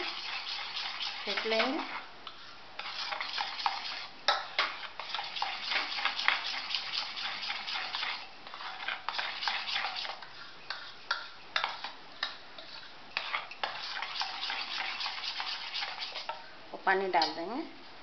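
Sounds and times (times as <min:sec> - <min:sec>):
spoon scraping batter in bowl: 0:00.0 - 0:16.4.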